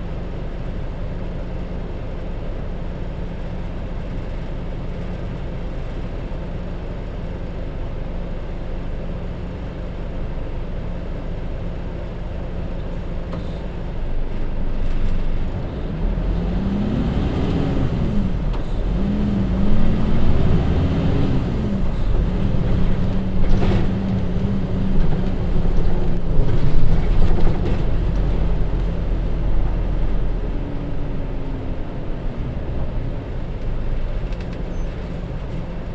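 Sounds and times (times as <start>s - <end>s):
bus diesel engine: 0.0s - 35.9s.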